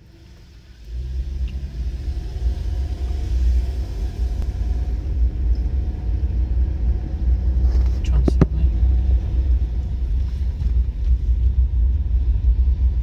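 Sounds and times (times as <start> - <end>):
car engine rumble from inside: 0.0 - 13.0.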